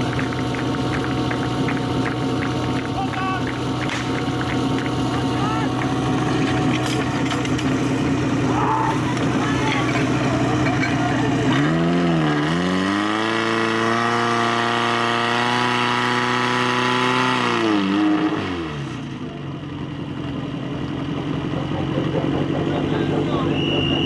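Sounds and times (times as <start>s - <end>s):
pump engine revving: 0.0s - 19.3s.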